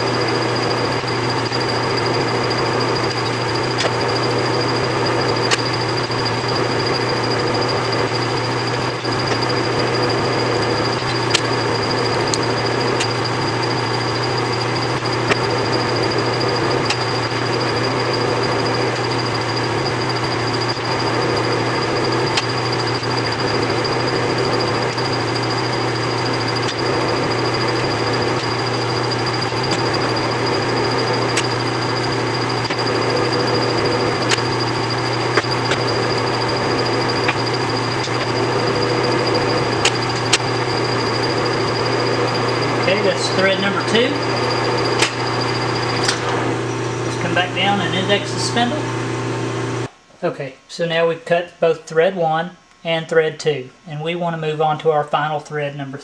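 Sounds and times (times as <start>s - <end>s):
lathe humming with high whine: 0.0s - 55.4s.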